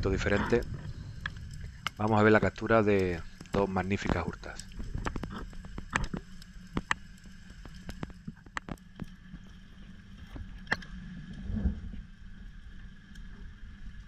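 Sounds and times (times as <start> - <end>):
underwater clicks and crackles: 0.0 - 14.0
underwater rumble: 0.0 - 14.0.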